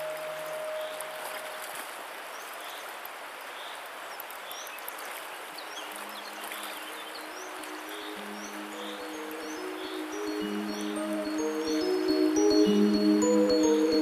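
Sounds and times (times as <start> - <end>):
river rushing over stones: 0.0 - 12.5.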